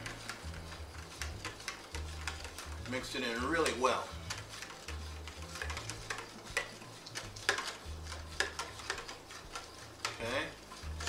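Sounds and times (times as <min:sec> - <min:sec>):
utensil stirring in plastic dish: 0:00.0 - 0:11.0
utensil tapping dish: 0:00.0 - 0:11.0.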